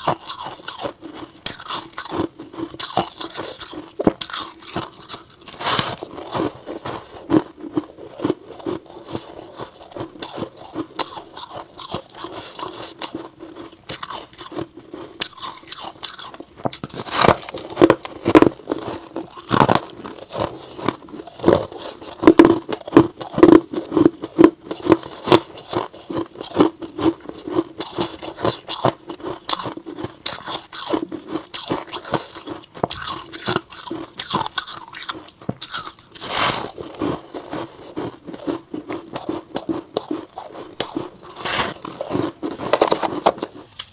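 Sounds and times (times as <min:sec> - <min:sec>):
crunching ice being chewed: 0:00.0 - 0:43.9.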